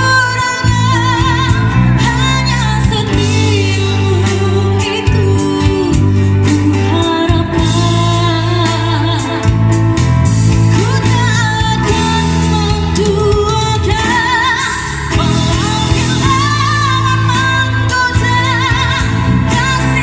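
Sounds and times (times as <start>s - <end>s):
woman singing: 0.0s - 9.8s, 10.7s - 20.0s
bass guitar: 0.0s - 20.0s
drums: 0.0s - 20.0s.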